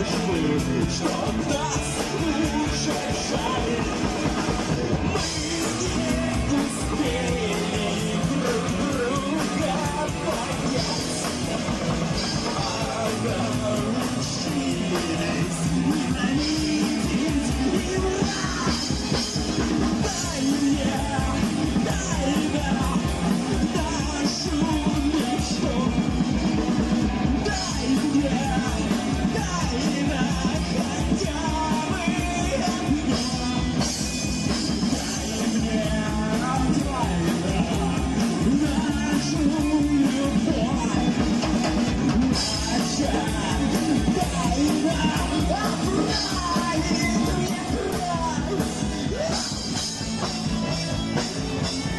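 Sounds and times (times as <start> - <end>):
drum kit: 0.0 - 51.9
guitar: 0.0 - 51.9
person singing: 0.0 - 51.9
rock music: 0.0 - 51.9.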